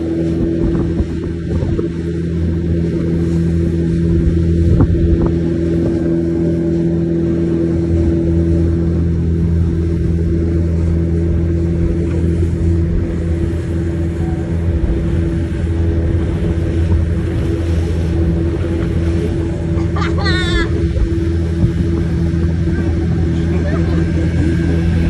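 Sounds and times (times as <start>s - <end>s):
motorboat engine droning: 0.0s - 25.0s
water rushing past hull: 0.0s - 25.0s.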